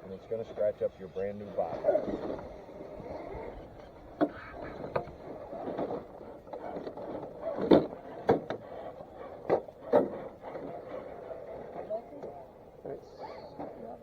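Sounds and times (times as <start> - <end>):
toy trucks clattering over rocks: 0.5 - 14.0.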